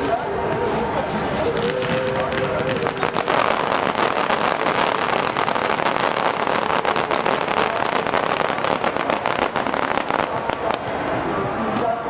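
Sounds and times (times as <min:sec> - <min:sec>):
fireworks crackling: 0:00.0 - 0:11.9.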